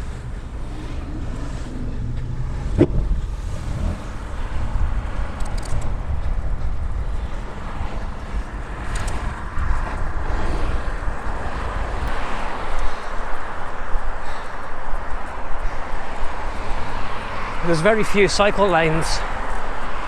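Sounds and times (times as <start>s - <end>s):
motor traffic passing: 0.0s - 20.0s
wind rumbling on microphone: 0.0s - 20.0s.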